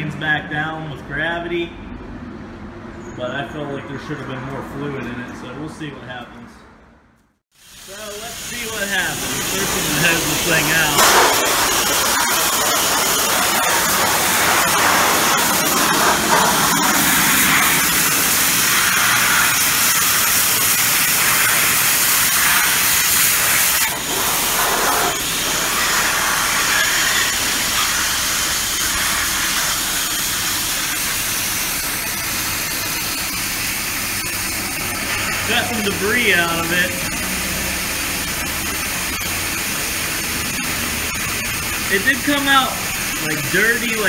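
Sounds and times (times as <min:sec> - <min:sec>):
pressure washer spraying water: 0:07.5 - 0:44.0.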